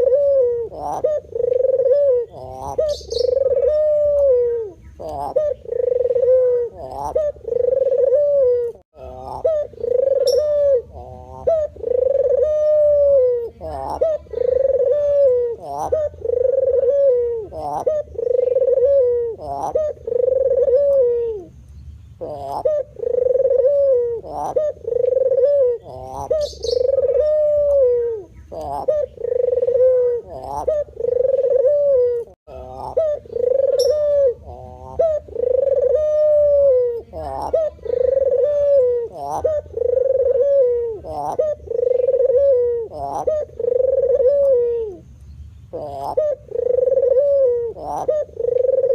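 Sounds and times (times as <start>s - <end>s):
dove cooing: 0.0s - 21.6s, 22.2s - 45.1s, 45.7s - 48.9s.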